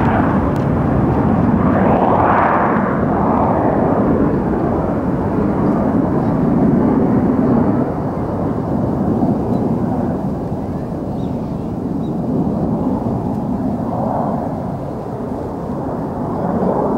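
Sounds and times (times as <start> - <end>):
jet roar and rumble: 0.0 - 16.9.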